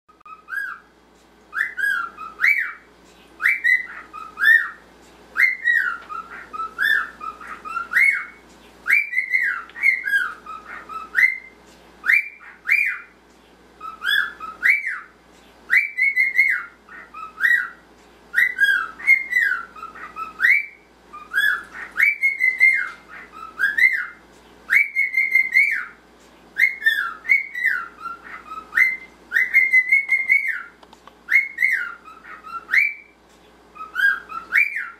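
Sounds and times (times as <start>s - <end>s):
cockatiel whistling: 0.3s - 0.9s, 1.5s - 13.2s, 13.8s - 26.0s, 26.6s - 34.9s.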